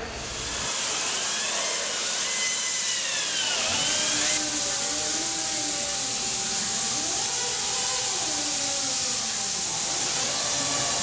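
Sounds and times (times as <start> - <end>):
power tool whirring: 0.3 - 11.0.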